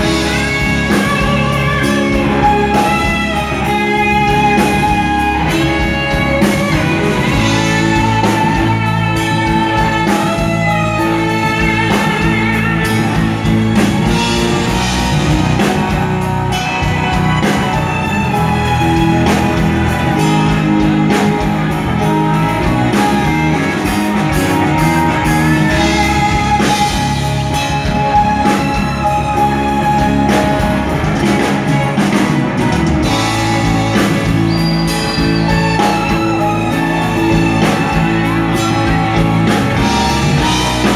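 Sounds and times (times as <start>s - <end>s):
bass guitar: 0.0s - 40.9s
electric guitar: 0.0s - 40.9s
keyboard: 0.0s - 40.9s.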